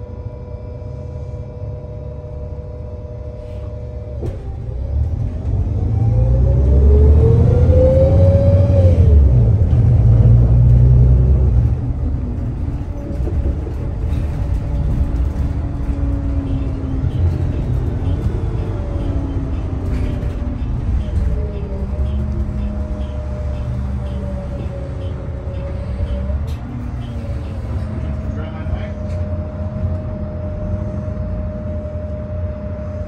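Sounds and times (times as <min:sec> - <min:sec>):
bus transmission whine: 0:00.0 - 0:33.0
low rumble of bus: 0:00.0 - 0:33.0.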